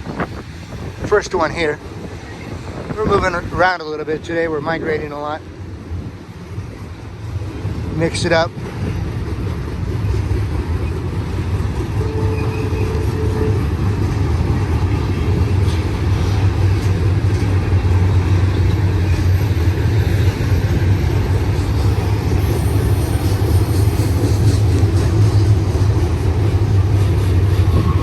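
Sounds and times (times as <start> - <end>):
freight train wheels rumbling on rail: 0.0 - 28.0.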